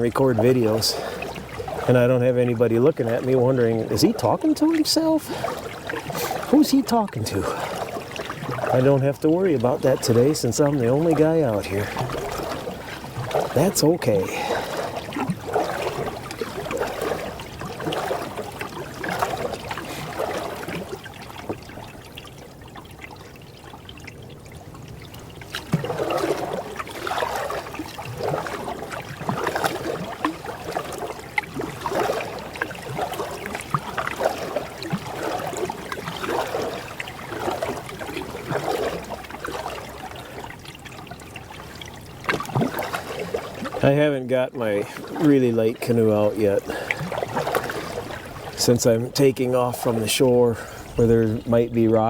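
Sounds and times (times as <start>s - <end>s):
paddle strokes in water: 0.0s - 52.0s.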